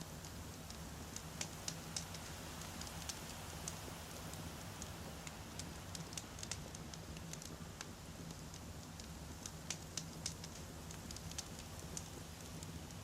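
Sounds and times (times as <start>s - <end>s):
campfire flames rumbling: 0.1s - 13.0s
logs crackling and popping: 0.1s - 13.0s.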